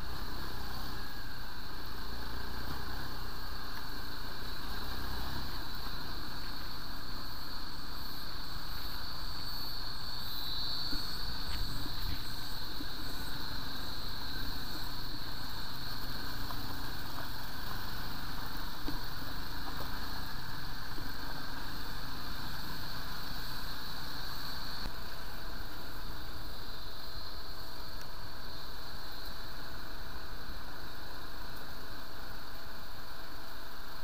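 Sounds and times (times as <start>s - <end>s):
motorcycle engines on dirt trail: 0.0s - 34.0s.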